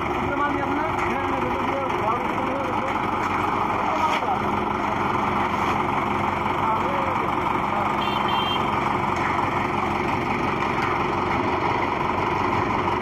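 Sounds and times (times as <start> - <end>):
concrete mixer running: 0.0 - 8.1, 8.7 - 13.0.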